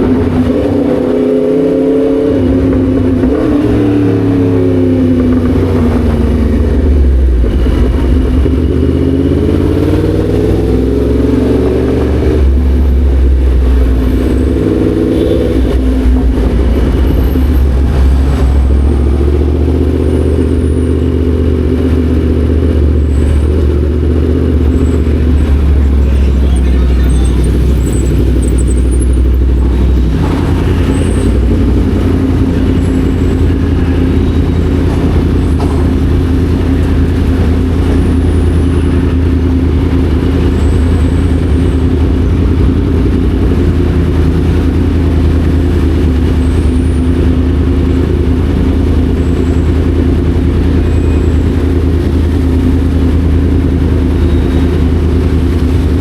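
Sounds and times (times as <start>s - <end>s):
motorcycle engine running: 2.2s - 56.0s.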